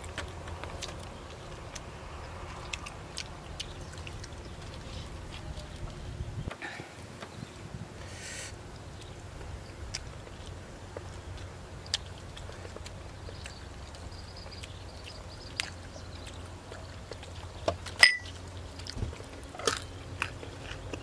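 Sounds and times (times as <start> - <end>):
chewing crisp raw vegetables: 0.0 - 6.2, 8.8 - 21.0
steady low hum: 0.0 - 21.0.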